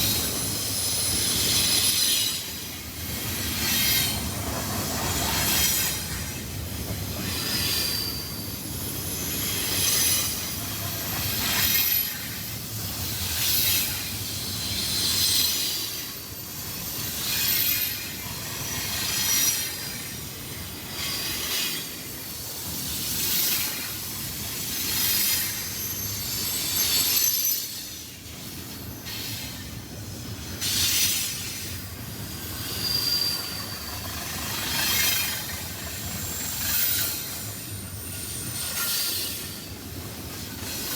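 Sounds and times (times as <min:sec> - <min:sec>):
freight train cars rolling: 0:00.0 - 0:40.9
steel wheels squealing on rail: 0:00.0 - 0:40.9.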